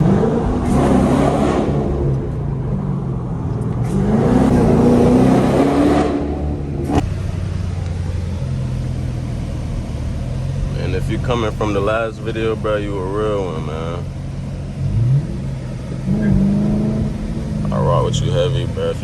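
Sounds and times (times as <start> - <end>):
car exhaust accelerating: 0.0 - 19.0.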